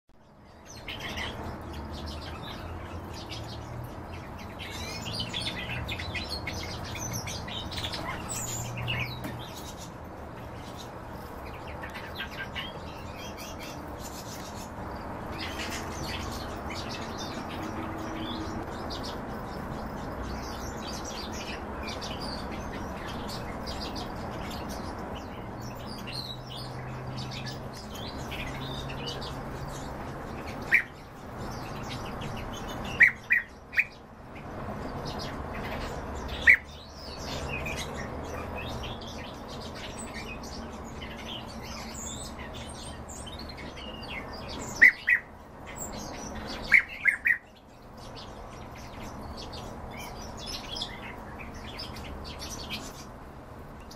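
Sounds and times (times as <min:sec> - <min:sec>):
songbirds twittering and chirping: 0:00.1 - 0:53.9
loud sharp bird calls: 0:00.2 - 0:53.2.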